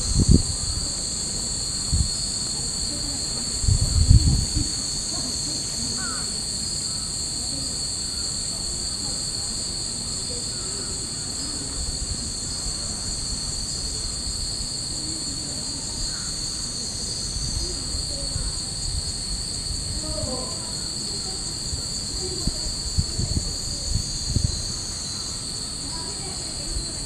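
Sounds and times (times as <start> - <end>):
wind rumbling on microphone: 0.0 - 6.2, 6.8 - 27.0
cicadas droning: 0.0 - 27.0.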